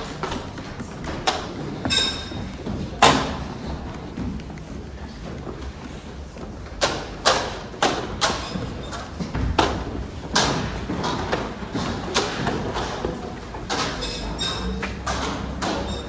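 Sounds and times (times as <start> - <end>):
footsteps on stairs: 0.0 - 14.1.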